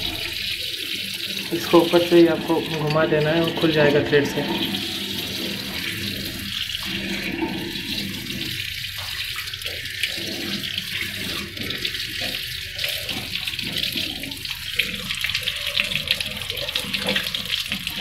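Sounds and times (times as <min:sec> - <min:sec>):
tap water splashing into basin: 0:00.0 - 0:18.0.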